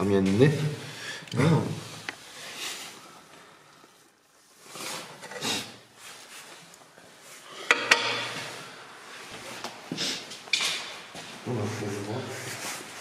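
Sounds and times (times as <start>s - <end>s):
objects rustling and scraping: 1.7s - 13.0s.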